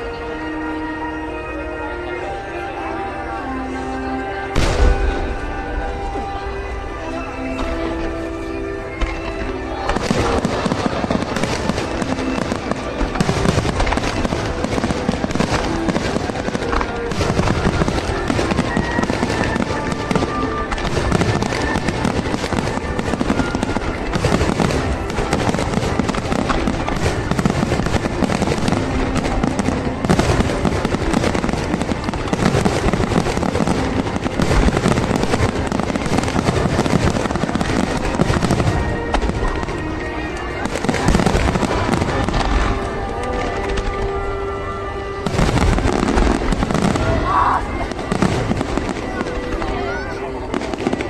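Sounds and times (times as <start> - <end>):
fireworks booming and crackling: 2.0 - 51.0.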